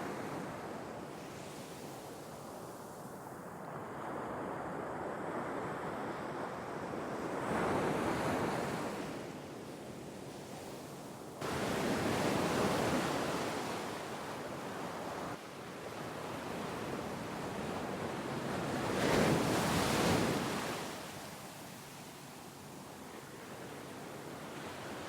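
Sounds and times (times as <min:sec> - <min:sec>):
sea waves washing ashore: 0:00.0 - 0:25.0.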